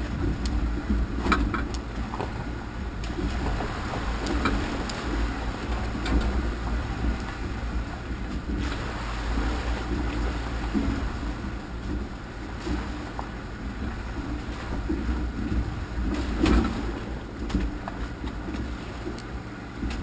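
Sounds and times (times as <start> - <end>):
knocks and rattles over rocks: 0.0 - 11.1, 14.2 - 20.0
low engine rumble: 0.0 - 20.0.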